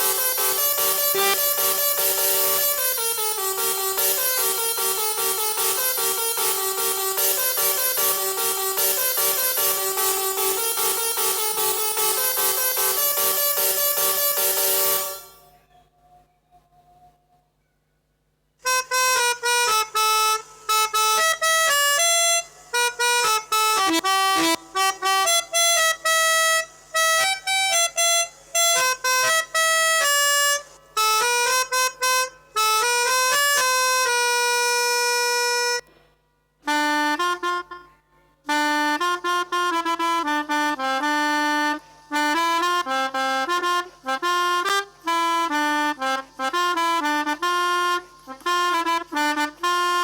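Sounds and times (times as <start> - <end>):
melodica playing a horn-like tune: 0.0 - 15.7, 18.6 - 36.0, 36.6 - 50.0.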